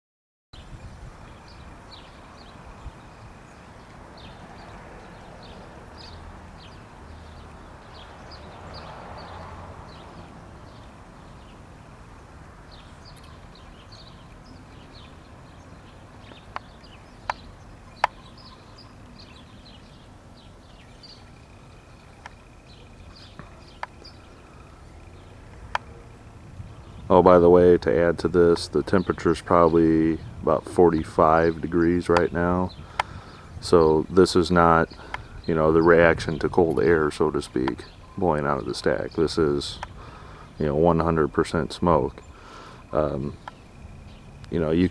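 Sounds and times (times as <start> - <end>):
small birds chirping: 0.6 - 44.9.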